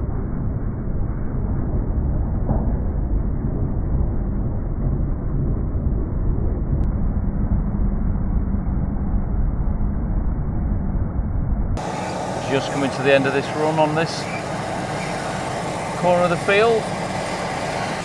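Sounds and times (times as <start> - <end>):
muffled combine harvester rumble: 0.0 - 18.0.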